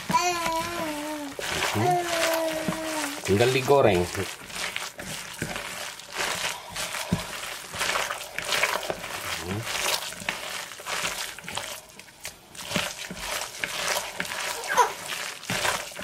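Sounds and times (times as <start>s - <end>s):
hand squeezing potato batter: 0.0s - 16.0s.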